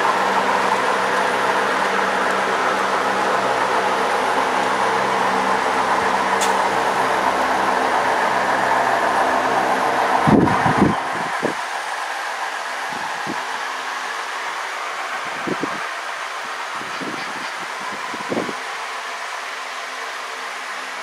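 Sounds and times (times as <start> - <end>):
model train wheels rumbling: 0.0 - 21.0.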